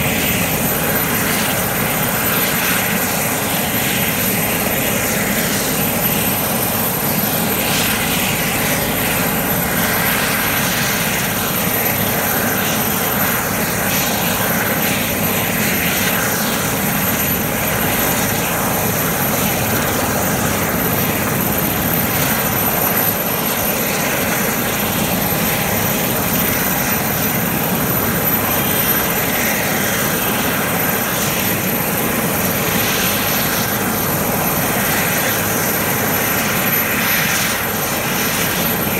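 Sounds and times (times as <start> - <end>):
helicopter idling: 0.0 - 38.9.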